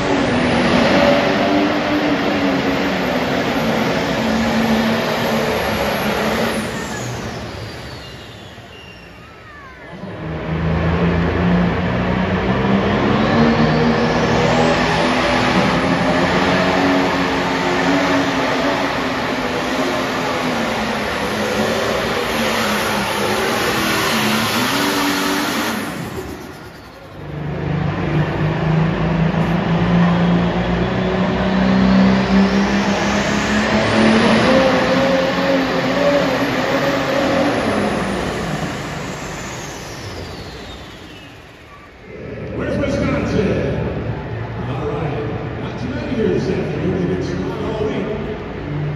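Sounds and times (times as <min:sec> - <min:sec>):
diesel engines at full throttle: 0:00.0 - 0:48.9.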